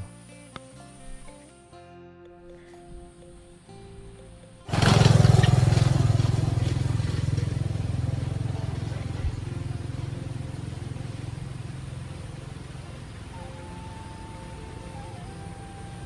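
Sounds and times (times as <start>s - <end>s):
vehicle engine rumbling: 3.1s - 16.0s.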